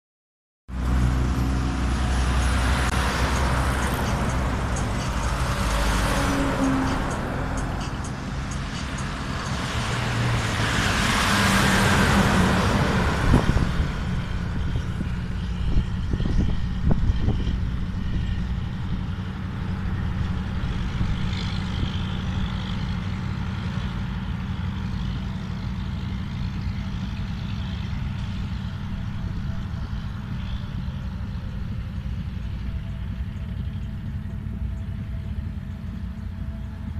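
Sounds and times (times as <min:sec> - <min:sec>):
low rumble of traffic: 0:00.7 - 0:36.9
vehicle passing: 0:00.7 - 0:36.9.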